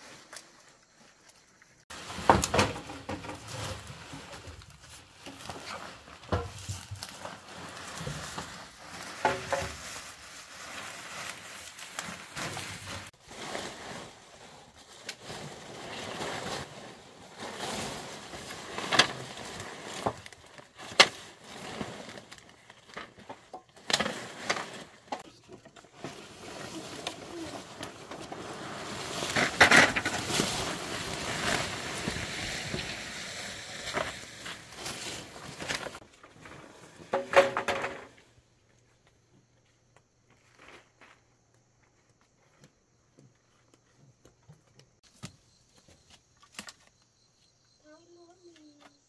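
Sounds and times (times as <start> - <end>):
rustling scraping noise: 0.0 - 38.4, 40.3 - 41.4.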